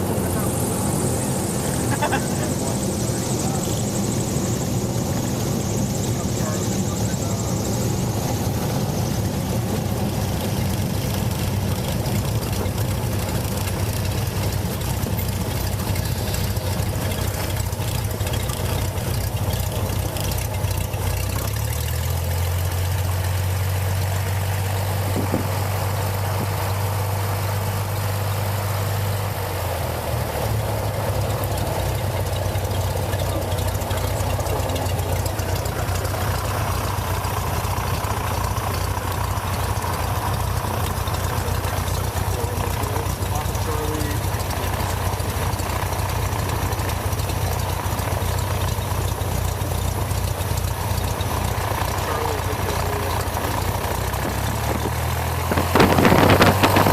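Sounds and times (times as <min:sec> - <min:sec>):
aircraft piston engine drone: 0:00.0 - 0:56.9.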